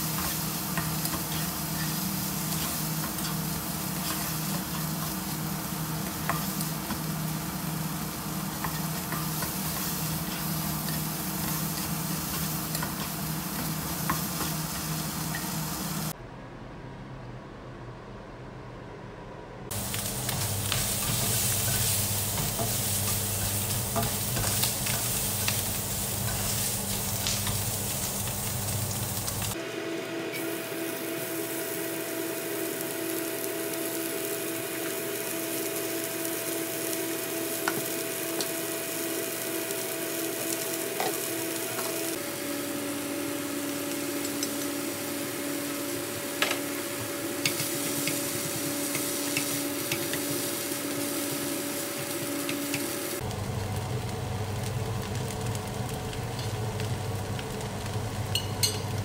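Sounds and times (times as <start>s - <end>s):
food sizzling in a frying pan: 0.0s - 16.2s, 19.7s - 29.6s, 30.3s - 59.0s.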